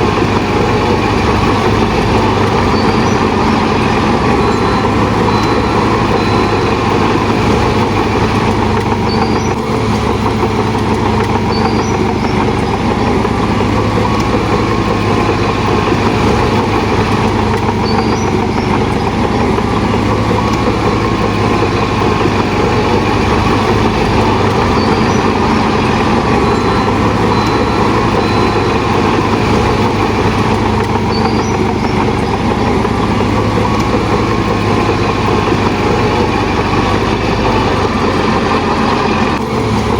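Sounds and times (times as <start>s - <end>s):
faint high chirps: 0.0s - 39.1s
bulldozer diesel engine running: 0.0s - 39.9s.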